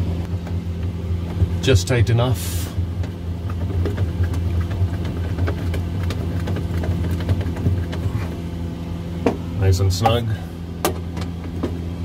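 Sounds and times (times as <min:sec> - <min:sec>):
refrigerator humming: 0:00.0 - 0:12.0.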